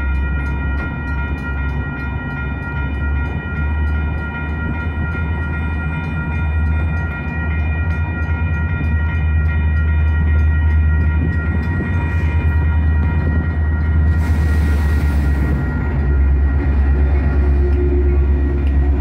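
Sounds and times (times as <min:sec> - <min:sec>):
diesel locomotive rumble: 0:00.0 - 0:19.0
railroad crossing bell ringing: 0:00.0 - 0:19.0.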